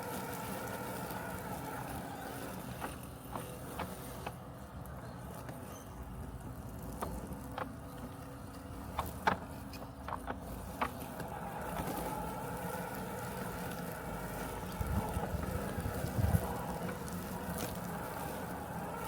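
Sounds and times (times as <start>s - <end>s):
robotic lawn mower hum: 0.0s - 19.0s.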